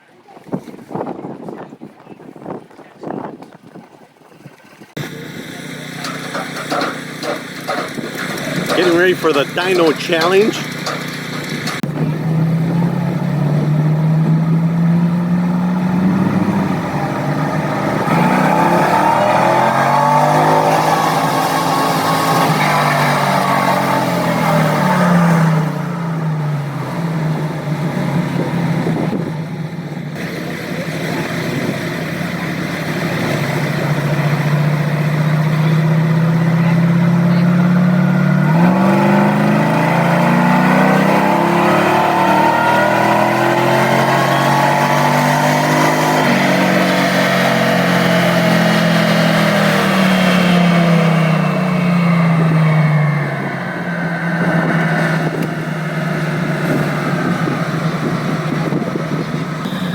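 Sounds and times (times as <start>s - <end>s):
truck engine revving: 5.0s - 59.9s.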